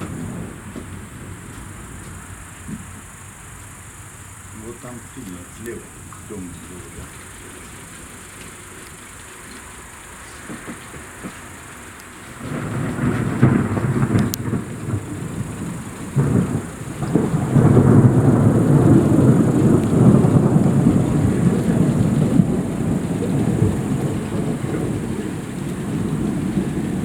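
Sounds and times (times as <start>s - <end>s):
thunder rumbling: 0.0s - 27.0s.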